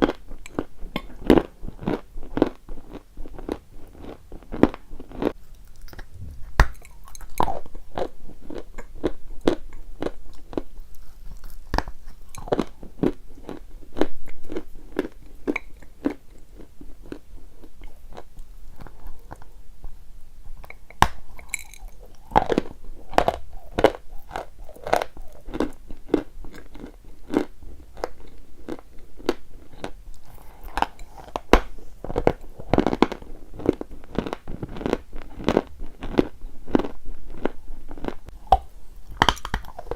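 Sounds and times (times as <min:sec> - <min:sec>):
person chewing crunchy chalk: 0:00.0 - 0:19.9, 0:20.5 - 0:39.9.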